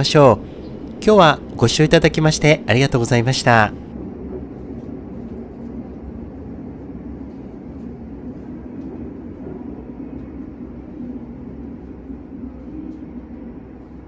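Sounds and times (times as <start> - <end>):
train rumble and hum: 0.0 - 14.0.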